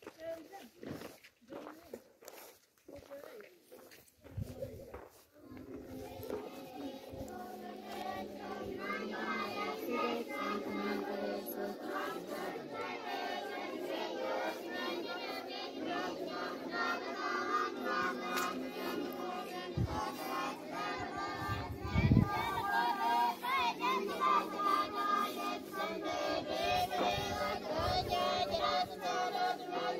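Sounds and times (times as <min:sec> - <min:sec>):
children singing in chorus: 0:05.4 - 0:29.9.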